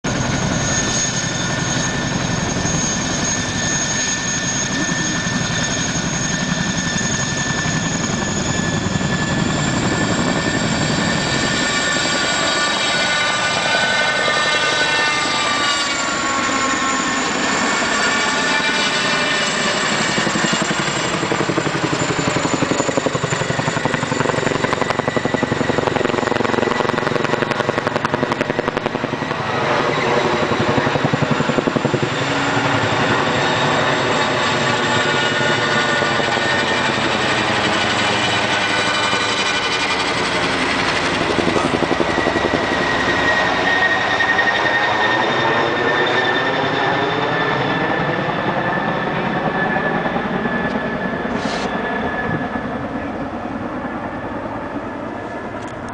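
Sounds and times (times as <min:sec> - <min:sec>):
turbine engine whine: 0:00.0 - 0:55.9
helicopter rotor chop: 0:00.1 - 0:55.9.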